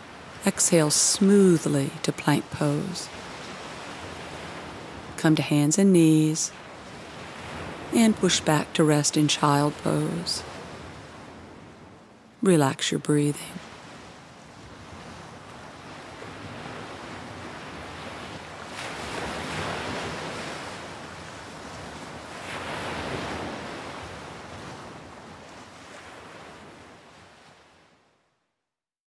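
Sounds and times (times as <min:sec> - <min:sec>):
ocean surf breaking on beach: 0:00.0 - 0:12.0, 0:13.1 - 0:27.9.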